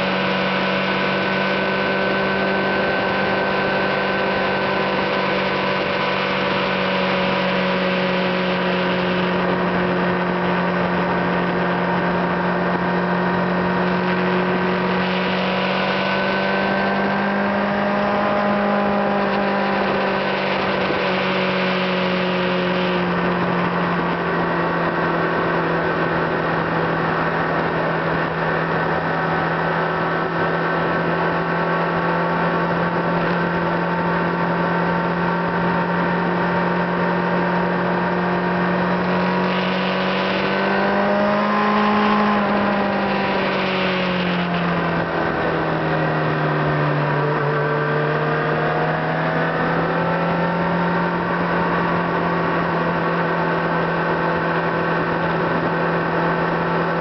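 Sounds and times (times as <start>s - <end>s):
car engine cruising: 0.0s - 57.0s
road noise: 0.0s - 57.0s.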